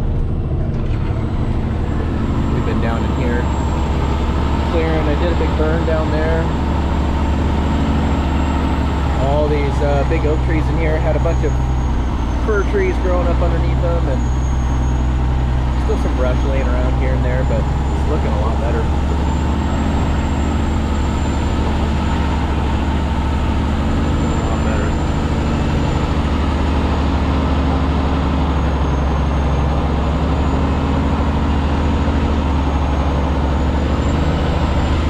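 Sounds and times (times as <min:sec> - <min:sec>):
road noise: 0:00.0 - 0:35.0
truck engine running: 0:00.0 - 0:35.0.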